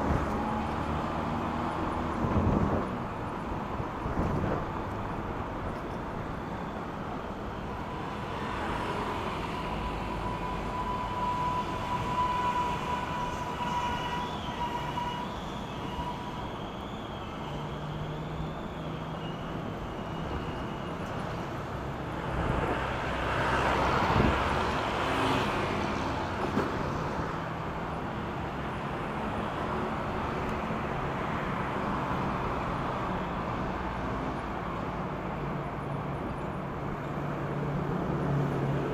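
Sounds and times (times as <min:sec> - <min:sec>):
traffic noise: 0:00.0 - 0:38.9
wind and road noise: 0:00.0 - 0:38.9.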